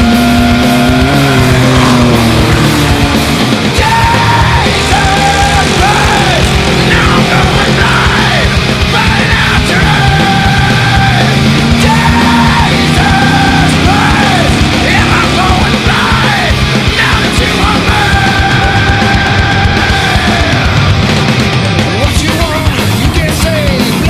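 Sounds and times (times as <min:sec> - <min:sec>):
shouted vocals: 0:00.0 - 0:21.0
loud rock music: 0:00.0 - 0:24.0.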